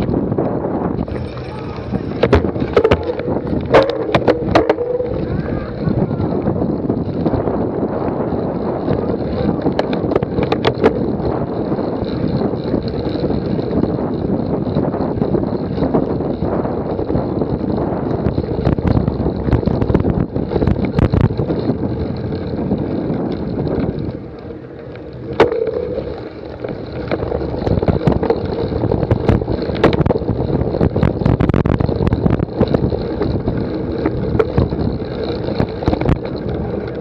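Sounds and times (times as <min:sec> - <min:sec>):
bike rattling over rough ground: 0:00.0 - 0:37.0
wind buffeting microphone: 0:00.0 - 0:37.0.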